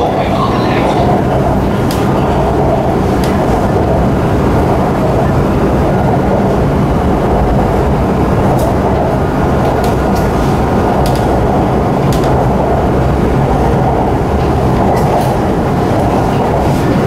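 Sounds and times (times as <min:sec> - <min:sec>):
train wheels and motors rumbling: 0:00.0 - 0:17.0.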